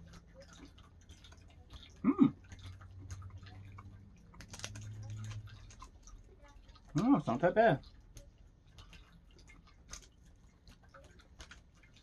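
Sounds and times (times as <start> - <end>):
chocolate bar crackling and chewing: 0.0 - 12.0.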